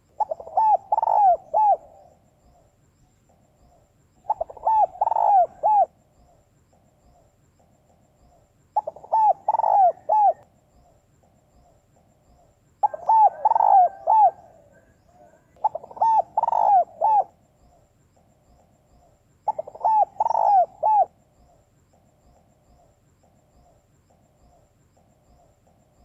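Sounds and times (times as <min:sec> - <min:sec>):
dove cooing: 0:00.0 - 0:02.7, 0:03.3 - 0:06.4, 0:08.3 - 0:10.5, 0:11.6 - 0:18.3, 0:19.0 - 0:25.5.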